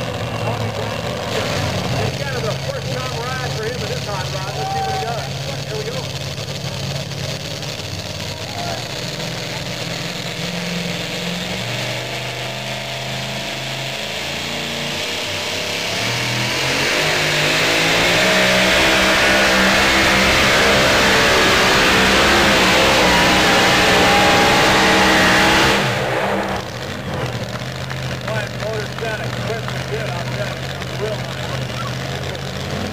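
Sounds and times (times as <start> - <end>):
supercharged truck engine revving: 0.0 - 32.9.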